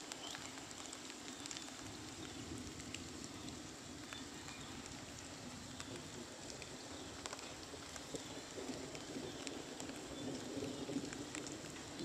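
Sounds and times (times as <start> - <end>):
light rain on pavement: 0.0 - 12.0.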